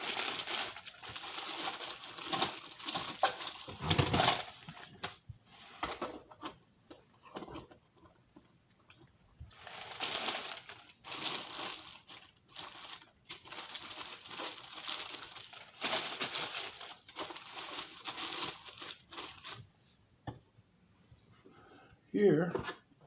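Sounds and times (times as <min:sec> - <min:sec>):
crinkling and rustling: 0:00.0 - 0:20.0.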